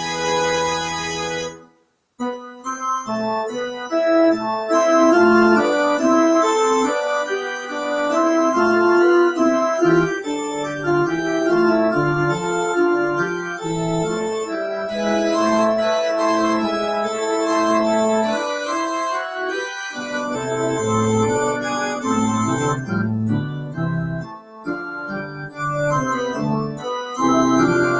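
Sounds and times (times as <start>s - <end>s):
organ playing chords: 0.0s - 27.9s.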